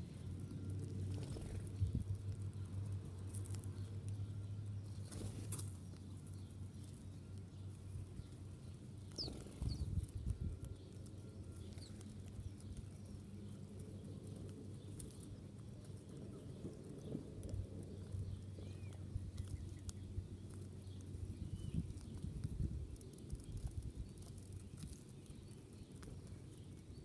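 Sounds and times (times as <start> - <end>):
small birds chirping: 0.0 - 27.0
steady low hum: 0.0 - 27.0
light pattering: 0.3 - 27.0.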